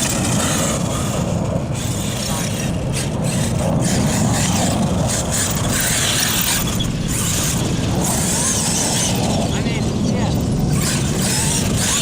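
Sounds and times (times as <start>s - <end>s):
electric rc truck motor whining: 0.0s - 12.0s.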